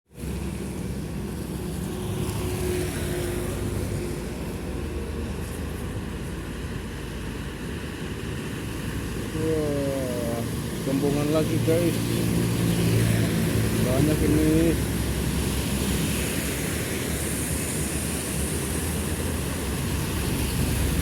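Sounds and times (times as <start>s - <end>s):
truck and bus engines rumbling: 0.1s - 21.0s.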